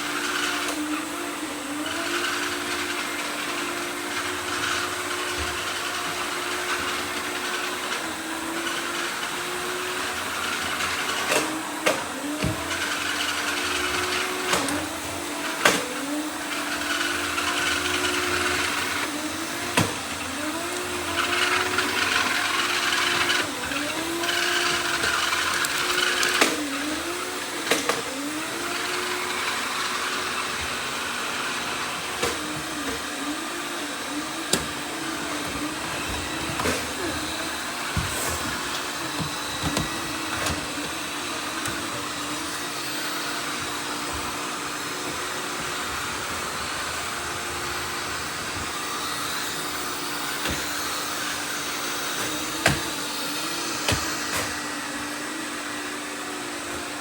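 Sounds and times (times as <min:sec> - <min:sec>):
robot vacuums whirring: 0:00.0 - 0:57.0.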